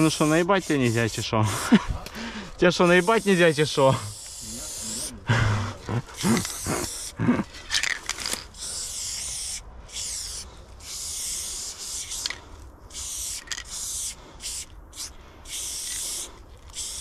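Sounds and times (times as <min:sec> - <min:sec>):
spray paint can hissing: 0:00.0 - 0:01.8, 0:02.5 - 0:17.0.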